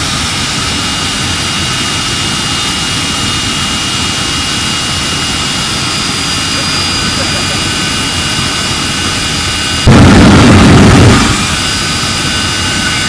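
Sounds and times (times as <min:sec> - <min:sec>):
jet engine with turbine whine: 0:00.0 - 0:13.0.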